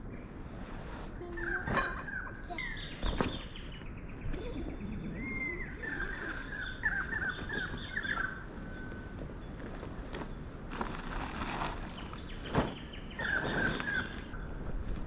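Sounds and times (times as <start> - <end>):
birds chirping and whistling: 0.2 - 9.6, 11.7 - 14.6.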